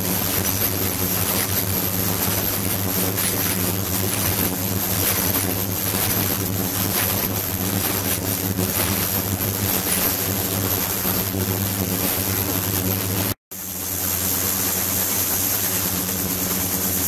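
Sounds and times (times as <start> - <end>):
faint high whine: 0.0 - 17.0
ultrasonic cleaner hum: 0.0 - 17.0.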